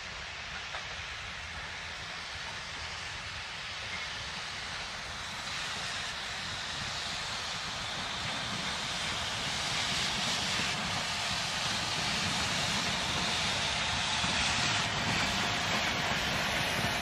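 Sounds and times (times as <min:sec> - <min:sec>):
steam locomotive hissing and chuffing: 0:00.0 - 0:17.0.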